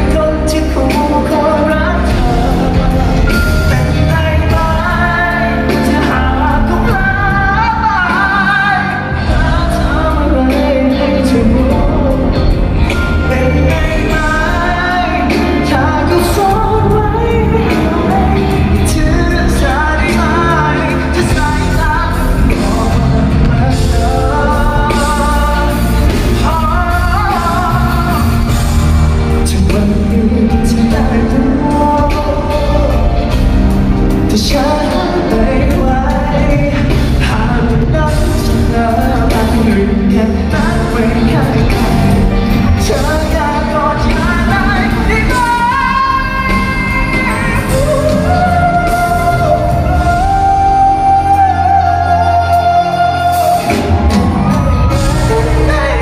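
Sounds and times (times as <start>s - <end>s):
lead singer singing: 0.0s - 56.0s
live pop-rock band: 0.0s - 56.0s.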